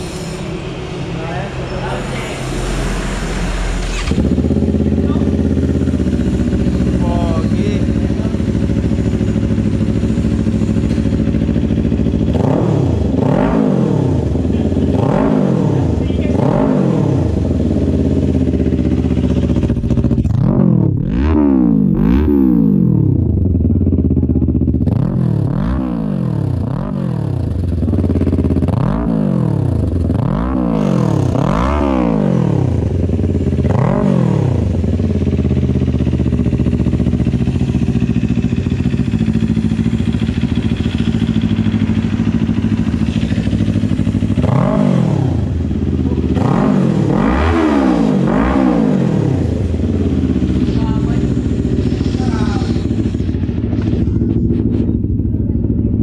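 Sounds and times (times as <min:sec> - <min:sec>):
motorcycle engine revving: 0:00.0 - 0:56.0
motorcycle engine idling: 0:00.4 - 0:56.0.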